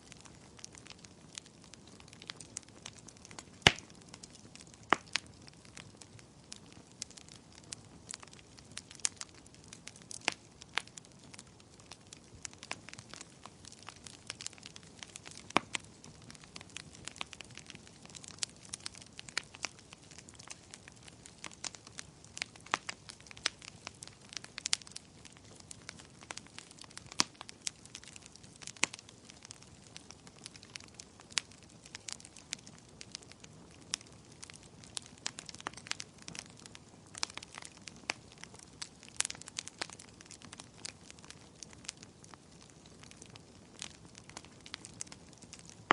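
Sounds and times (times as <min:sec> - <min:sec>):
faint steady hiss: 0:00.0 - 0:45.9
fireplace fire crackling: 0:00.0 - 0:45.9.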